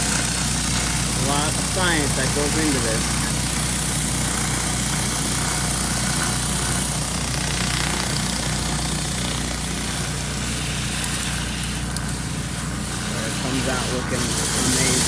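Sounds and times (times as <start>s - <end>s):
pressure washer engine running: 0.0s - 15.0s
spray hissing on concrete: 0.0s - 15.0s.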